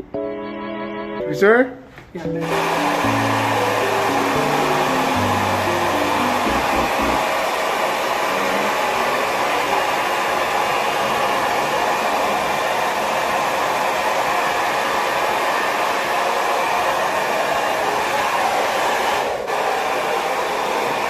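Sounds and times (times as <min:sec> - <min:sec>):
hair dryer blowing: 0:02.4 - 0:21.0.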